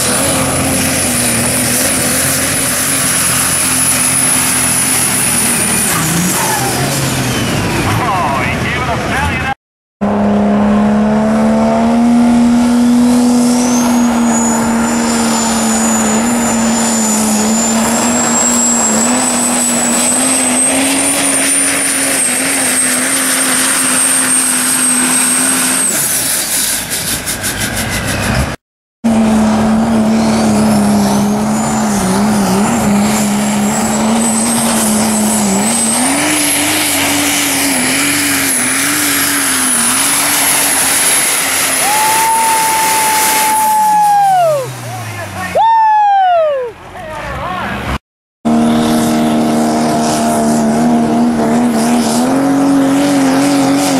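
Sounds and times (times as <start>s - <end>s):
turbocharger whistle: 0.0s - 8.0s, 10.0s - 28.5s, 29.1s - 46.8s
diesel truck engine drone: 0.0s - 53.9s.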